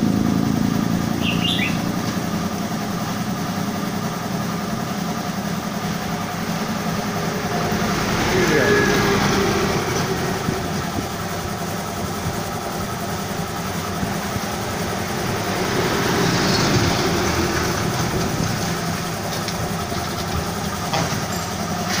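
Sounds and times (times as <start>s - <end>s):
mechanical rumble: 0.0s - 22.0s.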